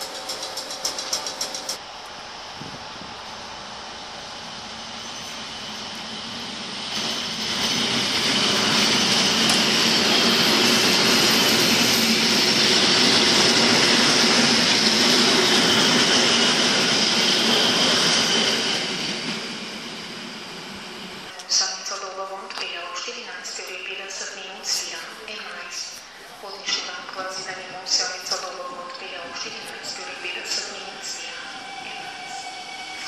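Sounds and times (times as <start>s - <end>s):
passenger train rolling past: 0.0s - 33.0s.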